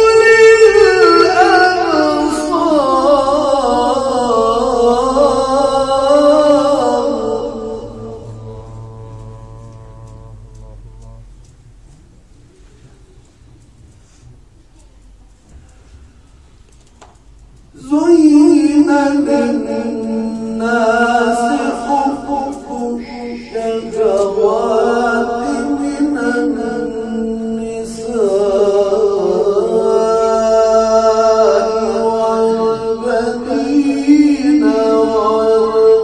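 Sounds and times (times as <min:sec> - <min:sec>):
man reciting melodically: 0:00.0 - 0:13.4, 0:17.4 - 0:36.0.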